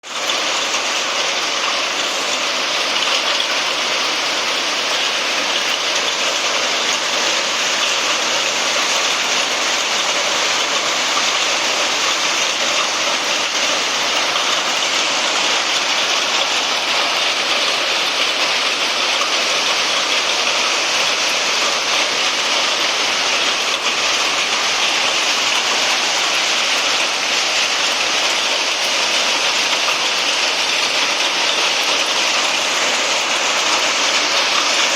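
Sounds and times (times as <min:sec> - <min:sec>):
heavy rain and hail falling: 0:00.0 - 0:34.9.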